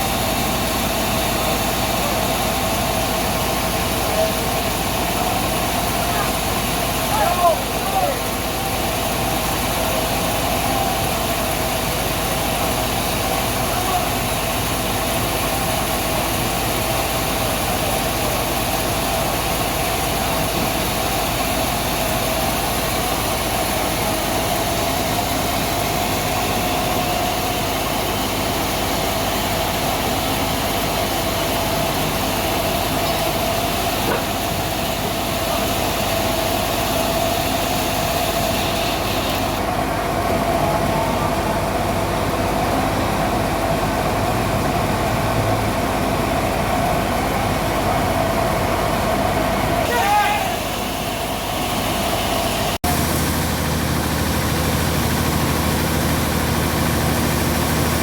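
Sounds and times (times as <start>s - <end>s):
sawmill machinery sawing log: 0.0s - 58.0s.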